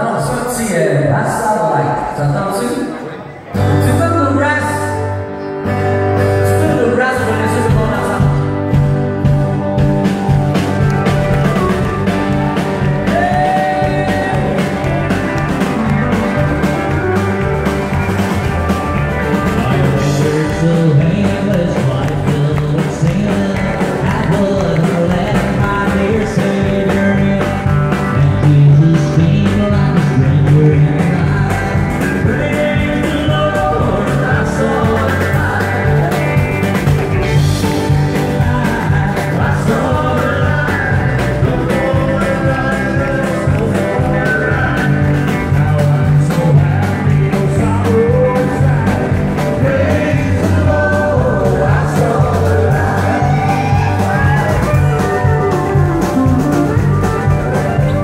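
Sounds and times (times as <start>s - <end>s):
live country band playing: 0.0s - 58.0s
person singing: 10.8s - 58.0s.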